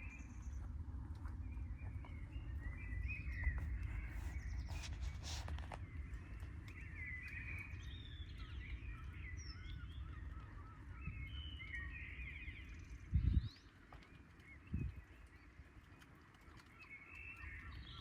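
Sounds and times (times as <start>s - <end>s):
low outdoor rumble: 0.0s - 16.2s.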